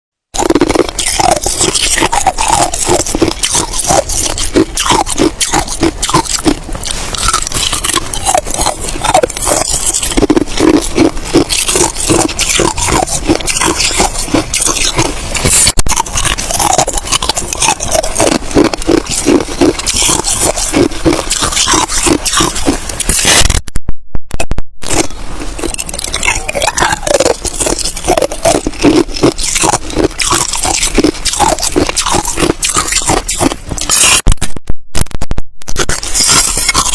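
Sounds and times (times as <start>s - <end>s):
person chewing ice: 0.3s - 23.7s, 24.8s - 34.3s, 35.6s - 36.9s.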